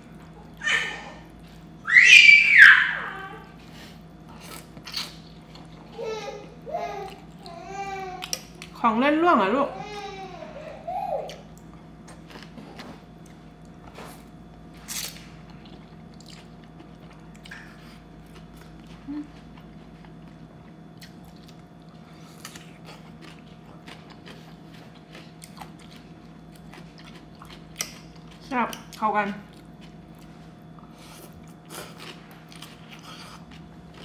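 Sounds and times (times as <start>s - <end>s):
faint steady hum: 0.0s - 34.0s
person chewing raw vegetable: 3.4s - 7.6s, 8.2s - 8.8s, 11.3s - 34.0s.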